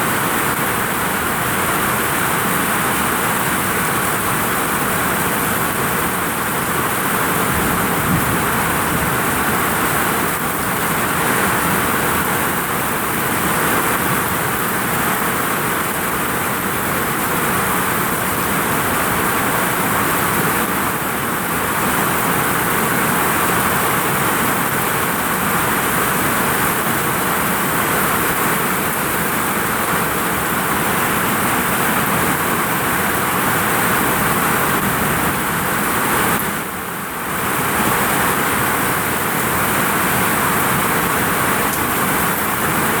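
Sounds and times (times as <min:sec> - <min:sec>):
heavy rain on a vinyl roof: 0:00.0 - 0:43.0.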